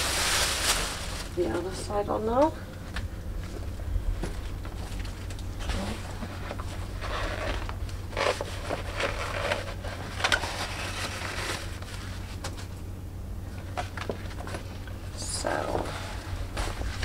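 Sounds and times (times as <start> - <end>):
patent boot rustling and crinkling: 0.0 - 12.8, 13.4 - 17.0
steady low hum: 0.0 - 17.0.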